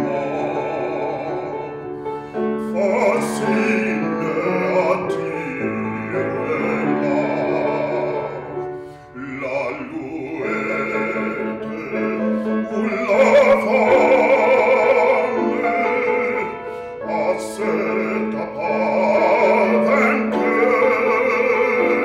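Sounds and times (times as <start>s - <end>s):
man singing operatic aria: 0.0s - 22.0s.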